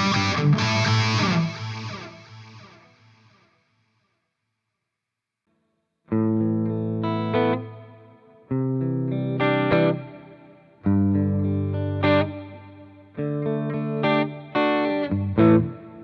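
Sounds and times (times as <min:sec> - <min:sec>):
electric guitar chords ringing: 0:00.0 - 0:03.4, 0:06.1 - 0:16.0.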